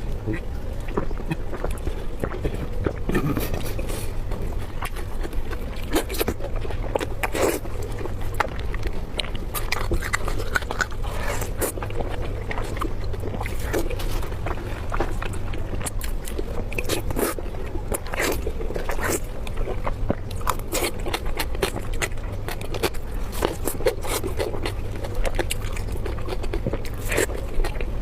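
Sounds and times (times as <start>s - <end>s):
biting and chewing food: 0.0s - 28.0s
steady low hum: 0.0s - 28.0s.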